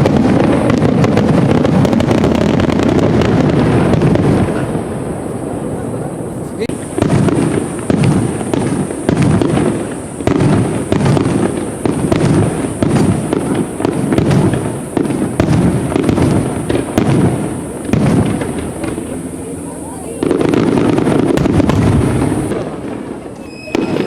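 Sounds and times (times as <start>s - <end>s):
fireworks booming: 0.0s - 24.0s
sharp firework cracks: 0.0s - 24.0s.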